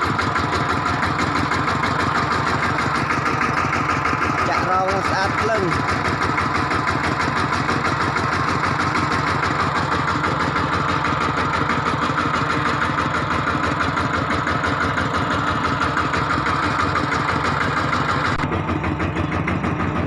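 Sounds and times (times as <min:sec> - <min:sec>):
tractor engine chugging: 0:00.0 - 0:20.0.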